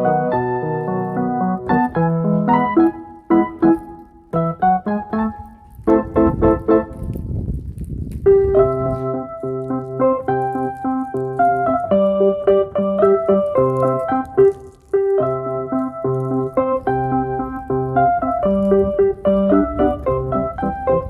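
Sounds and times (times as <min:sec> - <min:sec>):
keyboard music: 0:00.0 - 0:07.2, 0:08.3 - 0:21.0.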